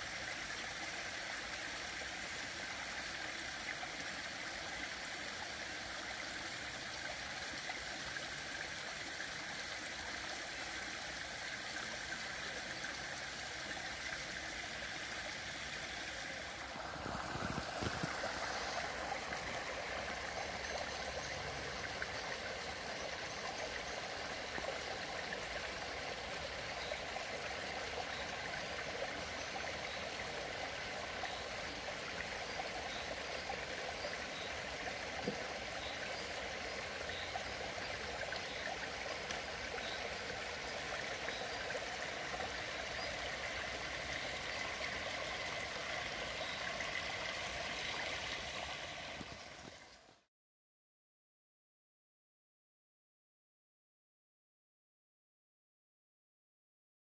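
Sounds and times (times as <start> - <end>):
stream water trickling: 0.0 - 50.3.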